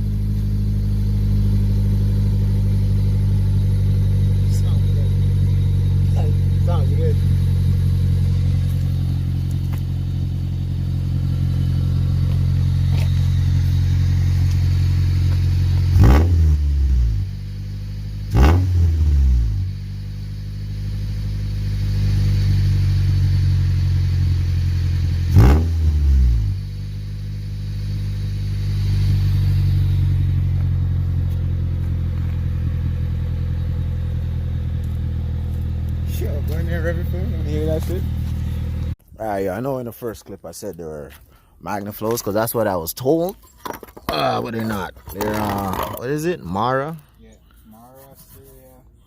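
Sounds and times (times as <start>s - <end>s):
car engine revving: 0.0s - 39.0s, 44.4s - 46.8s.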